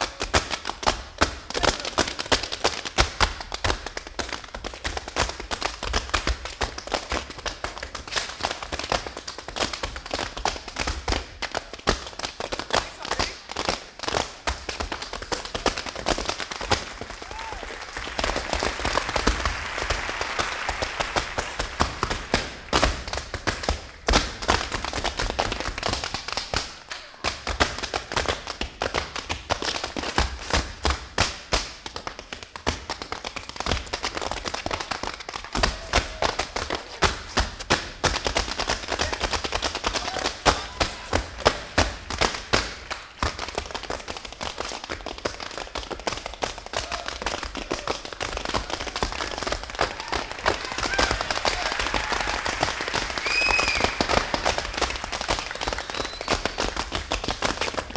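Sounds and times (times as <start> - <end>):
tap shoes on wooden stage: 0.0 - 57.9.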